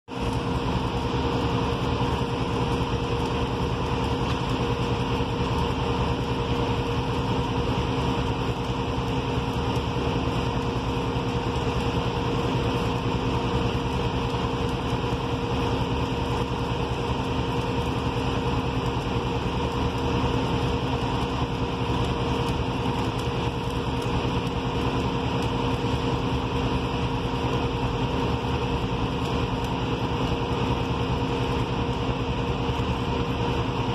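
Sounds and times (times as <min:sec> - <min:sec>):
arc welders hissing and crackling: 0:00.1 - 0:33.9
engine drone: 0:00.1 - 0:33.9.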